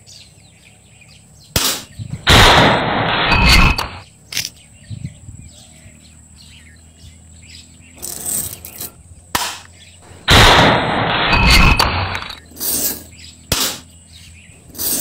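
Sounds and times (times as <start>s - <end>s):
birds chirping faintly: 0.0s - 2.2s, 3.5s - 10.3s, 12.0s - 15.0s.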